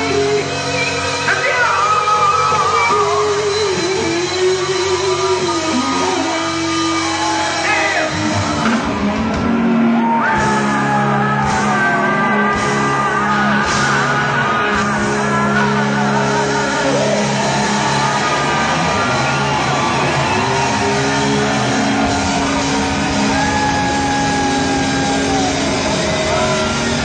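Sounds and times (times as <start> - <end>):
rock band playing live: 0.0 - 27.0
loud shouted singing: 5.0 - 27.0.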